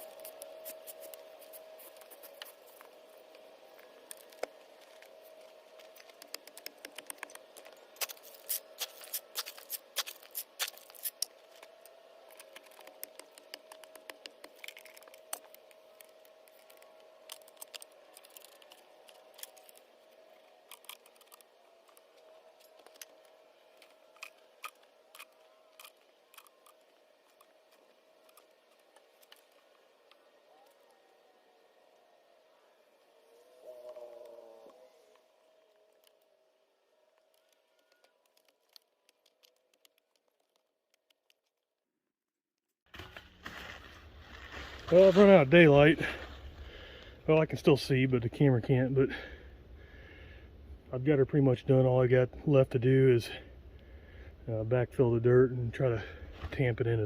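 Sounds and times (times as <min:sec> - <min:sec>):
faint steady hum: 0:00.0 - 0:41.2, 0:43.0 - 0:57.0.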